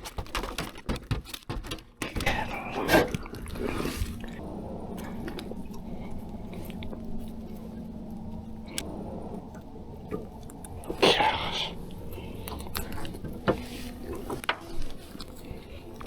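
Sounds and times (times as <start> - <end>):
steady low hum: 2.0 - 16.0.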